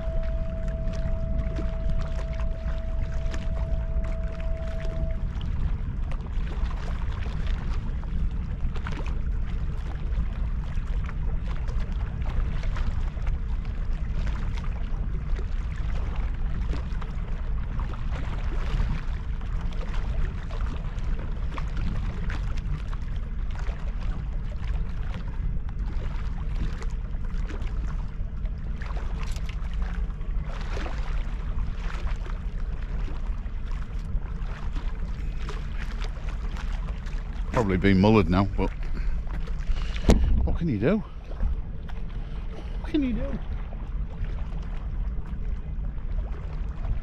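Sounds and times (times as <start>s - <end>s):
light ticks and splashes: 0.0s - 47.0s
wind and water rumble: 0.0s - 47.0s.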